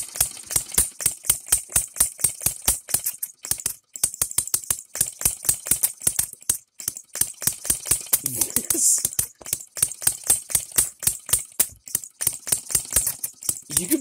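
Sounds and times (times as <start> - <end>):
model engine popping: 0.0 - 14.0.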